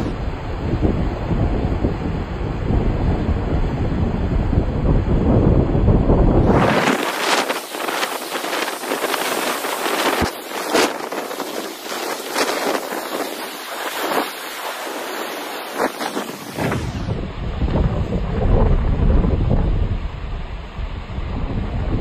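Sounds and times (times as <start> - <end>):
waves breaking and churning: 0.0 - 22.0
wind buffeting the microphone: 0.0 - 22.0.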